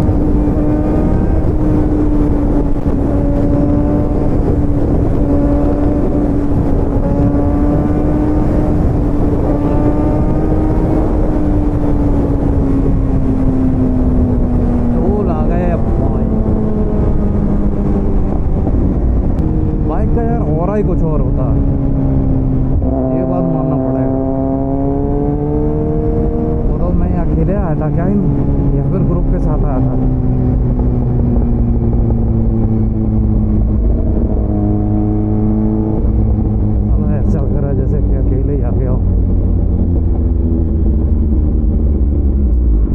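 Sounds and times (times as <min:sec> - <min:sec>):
heavy low rumble: 0:00.0 - 0:42.9
motorcycle engine cruising: 0:00.0 - 0:42.9
wind and road noise: 0:00.0 - 0:42.9.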